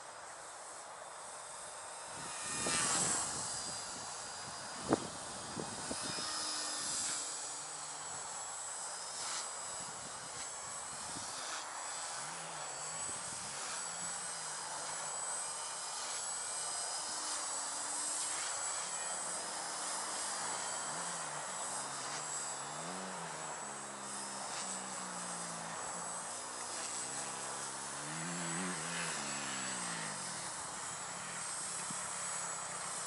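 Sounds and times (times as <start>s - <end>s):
high motor whine: 0.0s - 33.0s
rotor hum: 0.0s - 33.0s.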